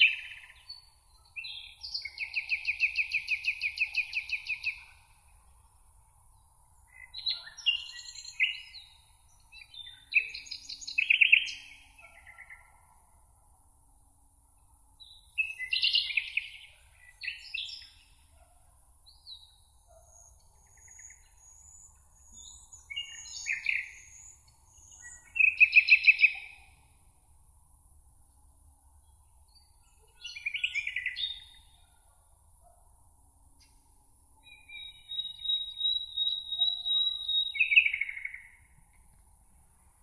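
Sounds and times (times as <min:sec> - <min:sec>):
songbirds singing: 0:00.0 - 0:05.3, 0:06.3 - 0:12.9, 0:15.0 - 0:27.0, 0:29.0 - 0:32.0, 0:33.5 - 0:39.2.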